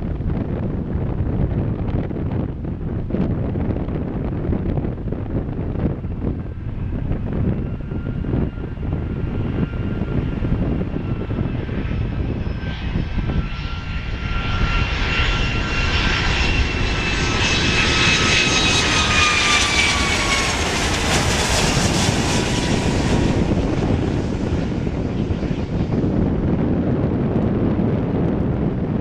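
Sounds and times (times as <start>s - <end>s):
jet engines passing close: 0.0s - 29.0s
steady low rumble: 0.0s - 29.0s.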